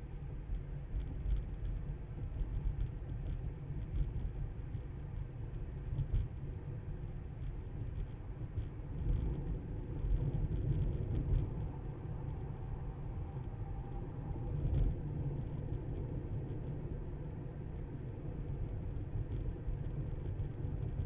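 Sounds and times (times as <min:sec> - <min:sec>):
faint hum: 0:00.0 - 0:21.0
road and tyre rumble: 0:00.0 - 0:21.0.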